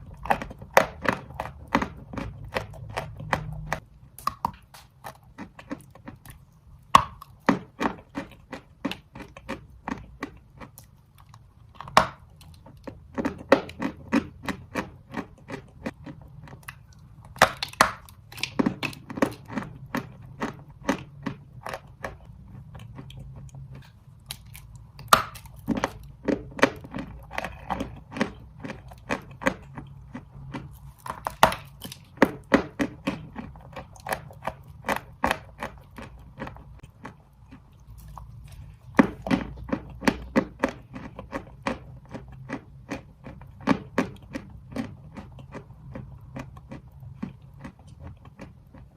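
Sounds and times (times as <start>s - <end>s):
crunching bites of chalk: 0.0s - 48.9s
crunching chews: 0.0s - 48.9s.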